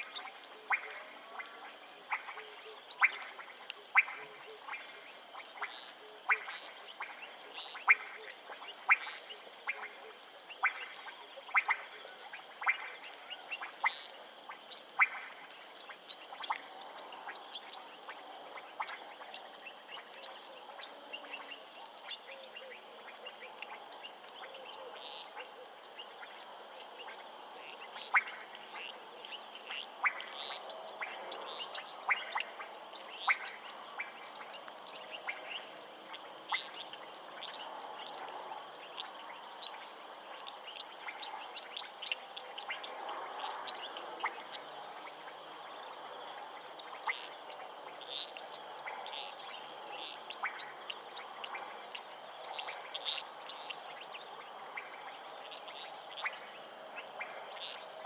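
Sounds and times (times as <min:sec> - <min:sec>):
frogs clicking calls: 0:00.0 - 0:58.0
high-pitched frog chorus: 0:00.0 - 0:58.0.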